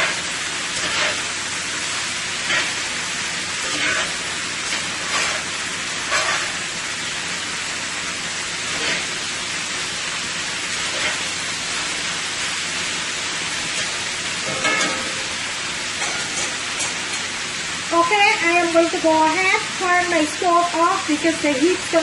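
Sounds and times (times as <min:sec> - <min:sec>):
stir-fry sizzling in a pan: 0:00.0 - 0:22.0.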